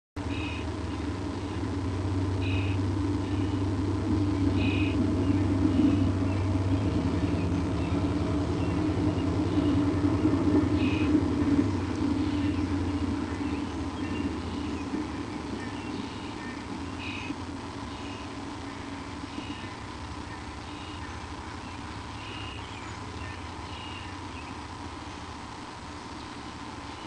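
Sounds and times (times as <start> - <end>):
constant hum: 0.2 - 27.0
low rumble: 0.2 - 27.0.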